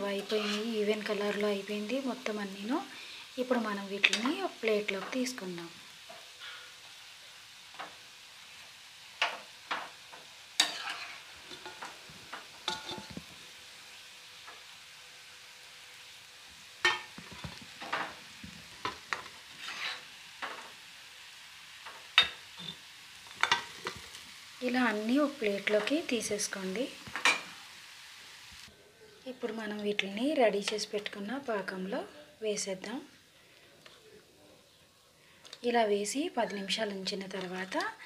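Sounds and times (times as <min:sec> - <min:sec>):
dumplings sizzling in hot oil: 0:00.0 - 0:33.4, 0:35.2 - 0:38.0.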